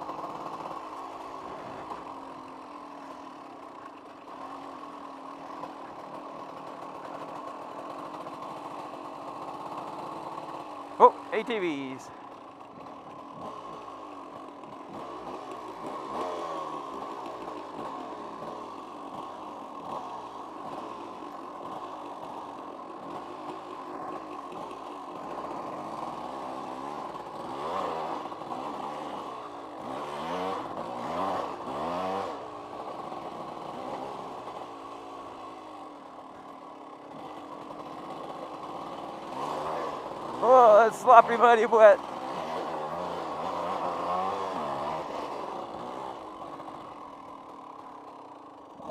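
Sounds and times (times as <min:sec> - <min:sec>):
dirt bike engine revving: 0:00.0 - 0:12.1, 0:12.7 - 0:35.6, 0:37.1 - 0:47.3.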